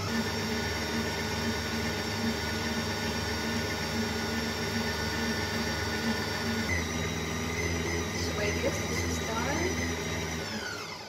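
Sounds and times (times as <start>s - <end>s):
stand mixer whisking batter: 0.0s - 11.0s.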